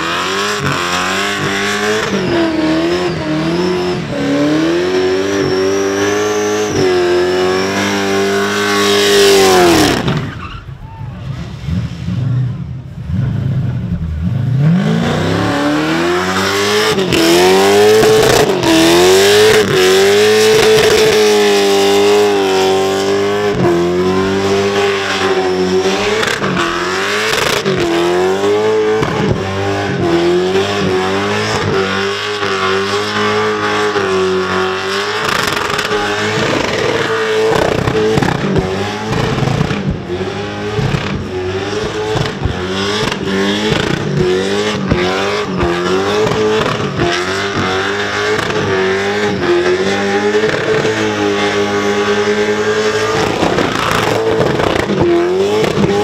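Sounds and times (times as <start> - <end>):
engine at high revs: 0.0 - 10.2, 11.6 - 56.0.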